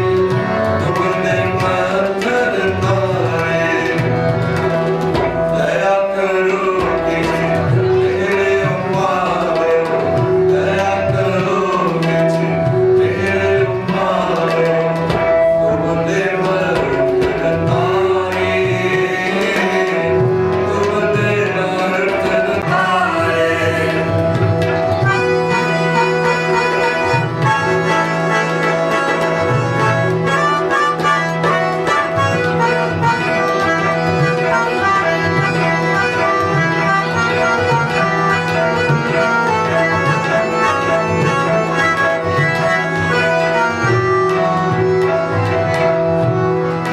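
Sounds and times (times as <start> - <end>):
harmonium melody: 0.0 - 46.9
tabla rhythm: 0.0 - 46.9.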